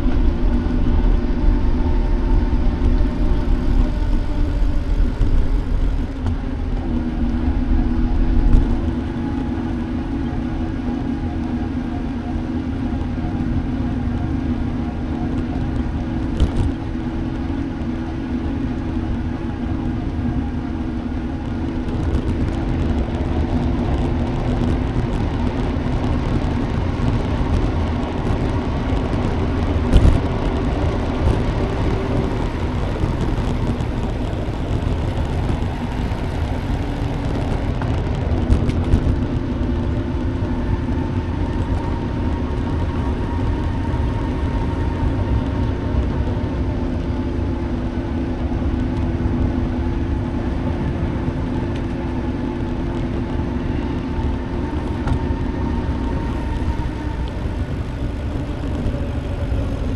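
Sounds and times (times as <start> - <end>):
drone motors humming: 0.0 - 59.9
wind noise on microphone: 0.0 - 59.9.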